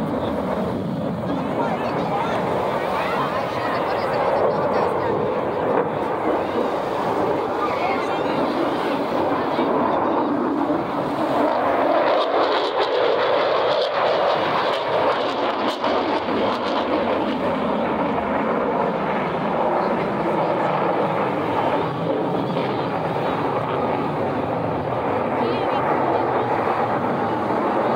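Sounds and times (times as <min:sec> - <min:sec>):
fighter jet flying past: 0:00.0 - 0:27.9.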